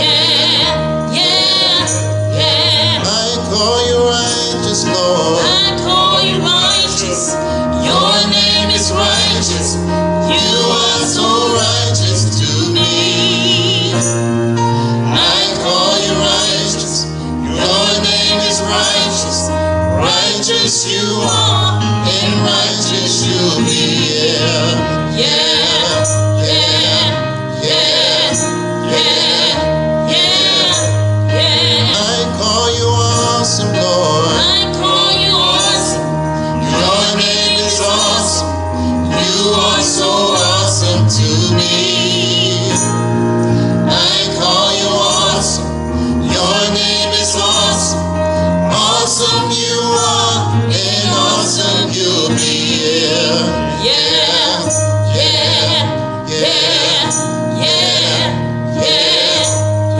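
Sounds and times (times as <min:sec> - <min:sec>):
gospel choir singing: 0:00.0 - 0:59.9
instrumental accompaniment: 0:00.0 - 0:59.9
steady bass line: 0:00.0 - 0:59.9.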